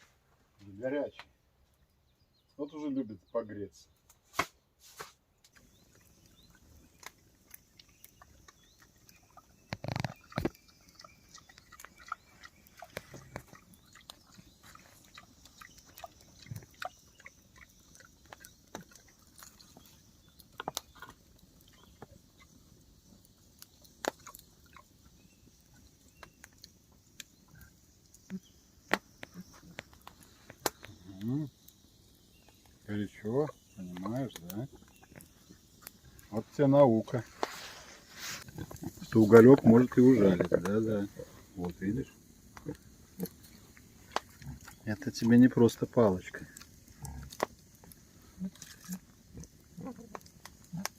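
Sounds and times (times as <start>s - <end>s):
campfire crackling: 4.0s - 50.9s
boar chewing and snuffling: 4.9s - 50.9s.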